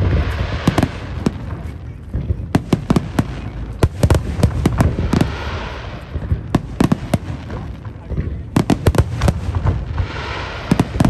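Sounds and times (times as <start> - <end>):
fireworks hissing crackle: 0.0 - 11.0.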